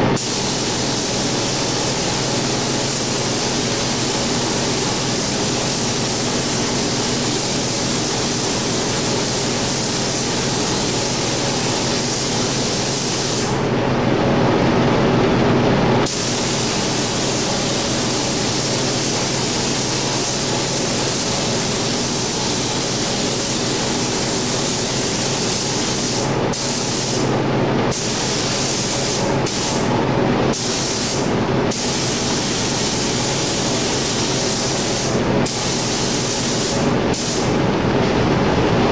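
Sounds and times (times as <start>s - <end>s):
paint spray gun hissing: 0.1s - 13.7s, 16.0s - 27.3s, 27.9s - 29.9s, 30.5s - 37.5s.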